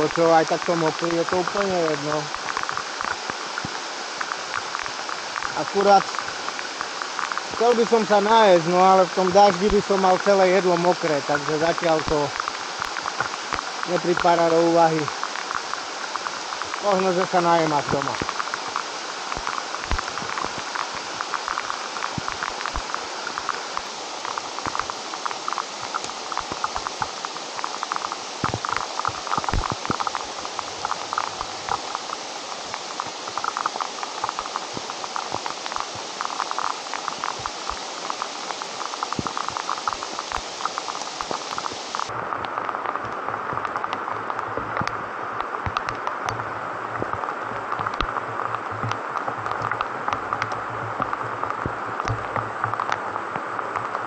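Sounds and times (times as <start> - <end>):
close raindrops ticking: 0.0 - 54.0
heavy rain hissing: 0.0 - 54.0
raindrops pattering on leaves: 0.0 - 54.0.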